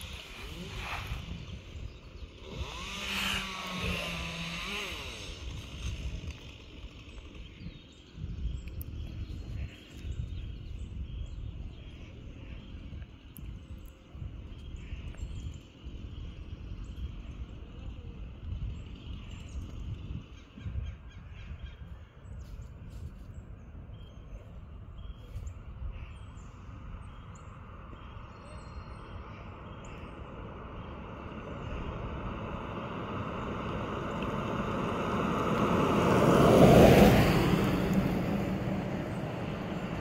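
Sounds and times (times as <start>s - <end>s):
wind buffeting microphone: 0.0s - 6.5s, 7.2s - 40.0s.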